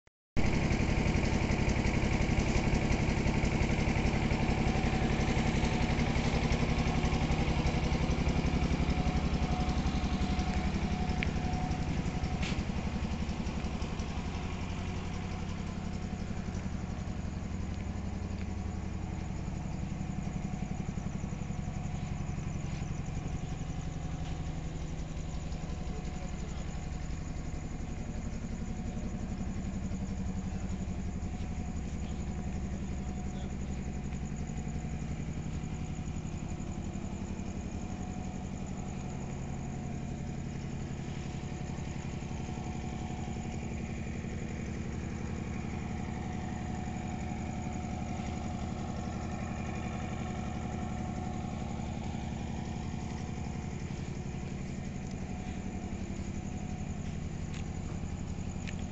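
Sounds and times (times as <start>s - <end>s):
engine idling: 0.4s - 58.9s.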